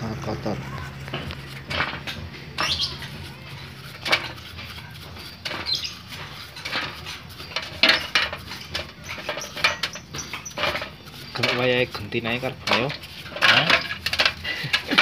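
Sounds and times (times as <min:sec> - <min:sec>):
small metal parts clinking: 0:01.1 - 0:15.0.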